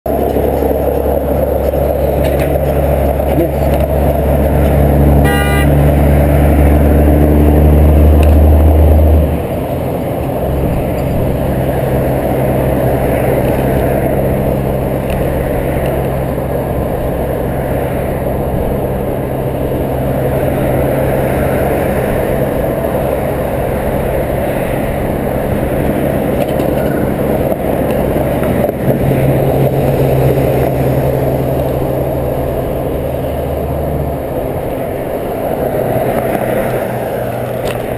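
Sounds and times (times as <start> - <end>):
car engine drone: 0.0 - 37.9.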